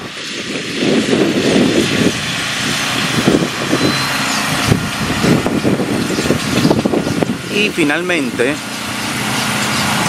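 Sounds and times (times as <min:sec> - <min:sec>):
cars passing on a highway: 0:00.0 - 0:10.0.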